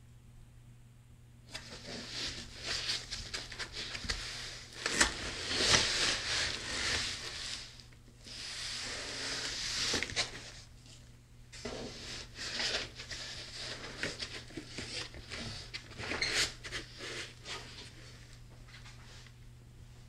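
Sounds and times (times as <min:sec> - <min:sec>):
packaging rustling and scraping: 0:01.5 - 0:18.0.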